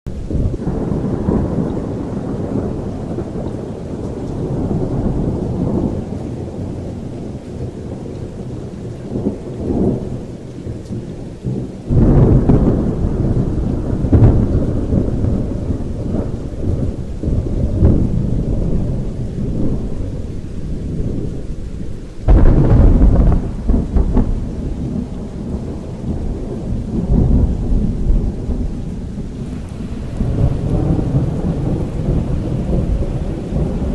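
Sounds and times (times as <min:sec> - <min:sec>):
loud thunderclaps: 0:00.1 - 0:33.9
steady rain: 0:00.1 - 0:33.9
thunder rumbling: 0:00.1 - 0:33.9.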